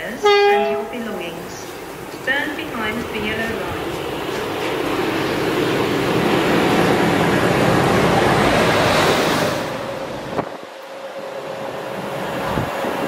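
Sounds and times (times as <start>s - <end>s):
locomotive passing: 0.0s - 13.0s.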